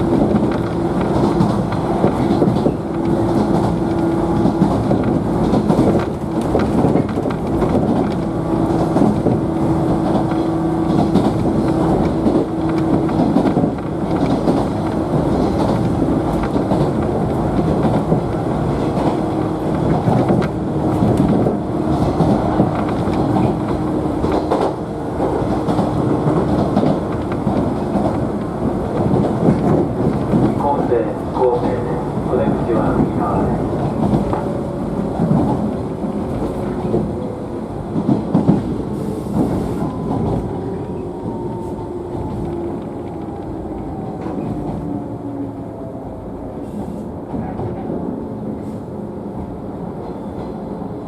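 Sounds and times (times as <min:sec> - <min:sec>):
wheels clacking over rail joints: 0:00.0 - 0:45.0
train rumbling: 0:00.0 - 0:51.0.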